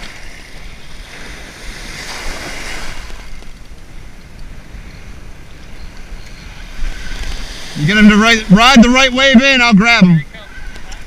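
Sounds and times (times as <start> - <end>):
surf washing in: 0.0 - 11.0.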